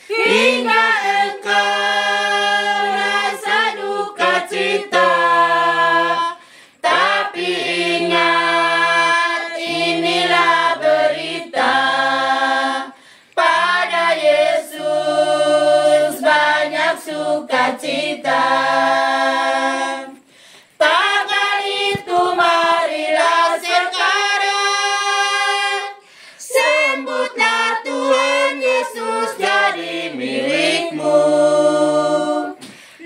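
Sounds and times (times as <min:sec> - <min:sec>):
women singing a hymn a cappella: 0:00.0 - 0:33.0.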